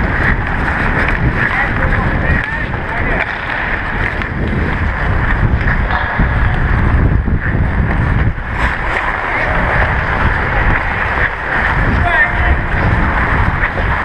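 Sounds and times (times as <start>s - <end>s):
skate blades scraping ice: 0.0s - 14.0s
wind on microphone: 0.0s - 14.0s.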